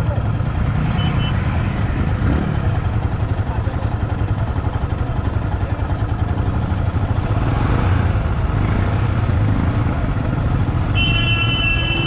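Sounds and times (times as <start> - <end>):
road and wind noise: 0.0 - 12.0
vehicle engine drone: 0.0 - 12.0.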